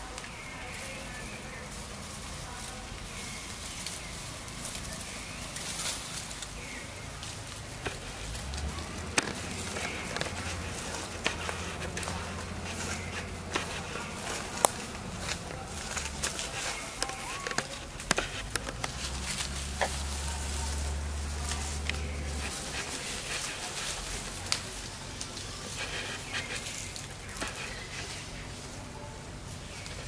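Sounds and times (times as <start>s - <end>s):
foil wrapper crinkling: 0.0s - 28.4s
steps through dry leaves: 0.0s - 30.0s.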